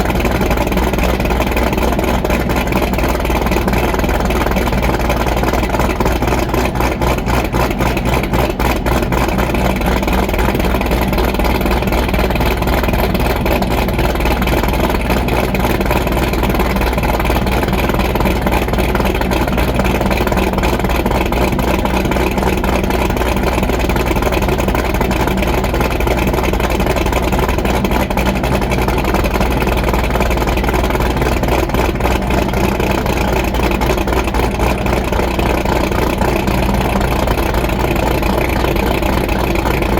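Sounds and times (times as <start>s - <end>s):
car engine idling with choppy lope: 0.0s - 39.9s.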